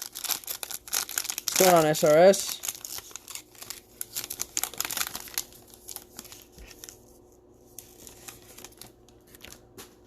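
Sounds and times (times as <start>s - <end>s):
wrapper crinkling: 0.0s - 9.8s.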